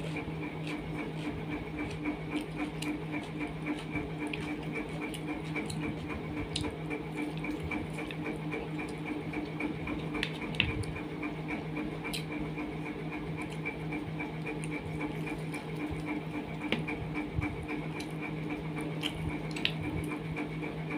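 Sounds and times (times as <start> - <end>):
fingers squishing rice: 0.0 - 20.9
pulsing hum: 0.0 - 20.9.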